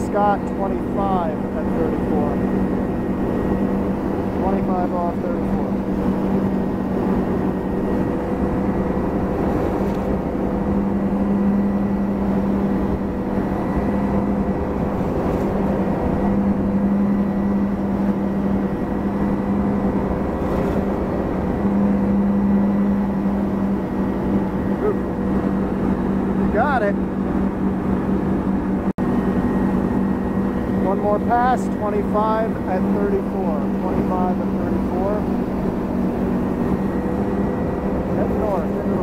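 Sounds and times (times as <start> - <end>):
boat engine drone: 0.0 - 39.0.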